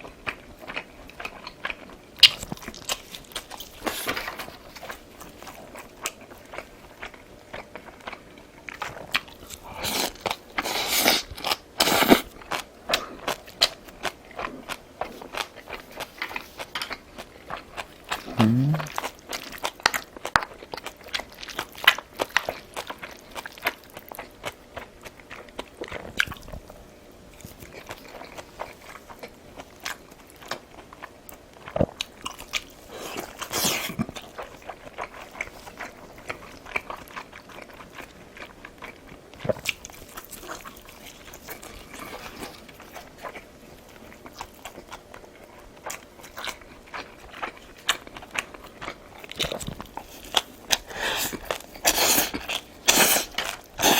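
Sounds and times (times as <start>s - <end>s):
close chewing and biting: 0.0s - 53.9s.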